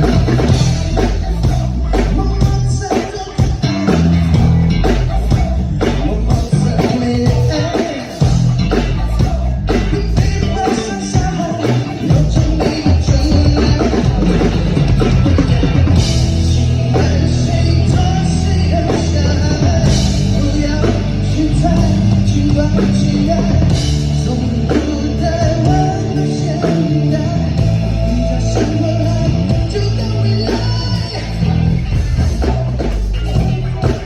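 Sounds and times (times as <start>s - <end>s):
electric bass low notes: 0.0s - 34.0s
rock band playing: 0.0s - 34.0s.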